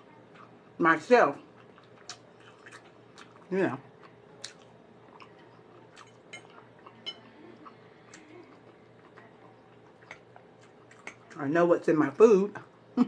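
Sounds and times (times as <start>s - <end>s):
faint steady hum: 0.0s - 13.0s
person chewing food: 0.1s - 0.8s, 1.4s - 11.4s.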